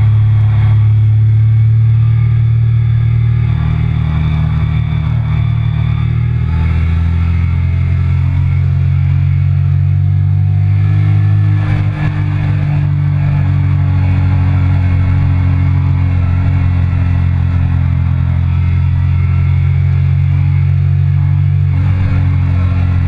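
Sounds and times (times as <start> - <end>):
motorcycle engine running hard: 0.0 - 23.0.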